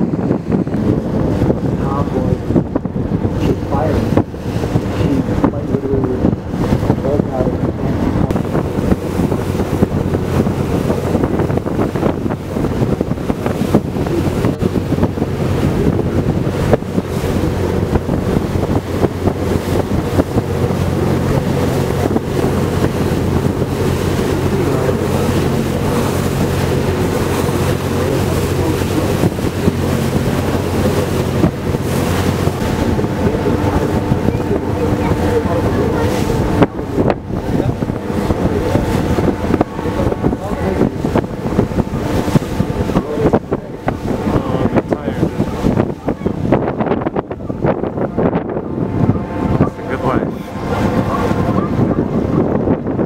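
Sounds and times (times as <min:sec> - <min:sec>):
boat engine humming: 0:00.0 - 0:53.0
water rushing past hull: 0:00.0 - 0:53.0
wind buffeting microphone: 0:00.0 - 0:53.0.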